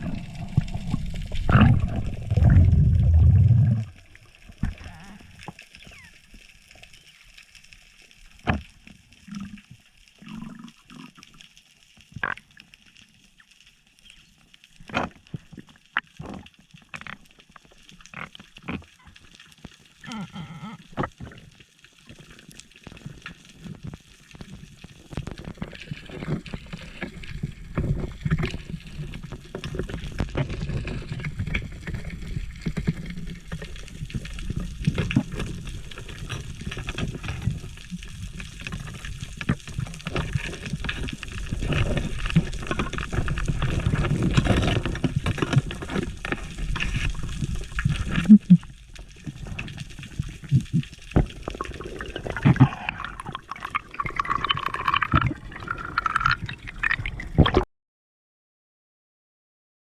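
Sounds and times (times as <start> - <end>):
water sloshing and gurgling: 0.0 - 13.2, 14.8 - 57.7.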